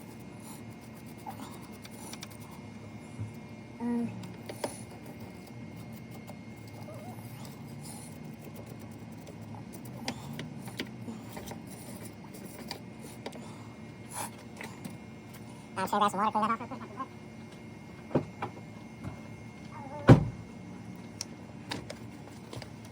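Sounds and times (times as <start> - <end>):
low background hum: 0.0 - 22.9.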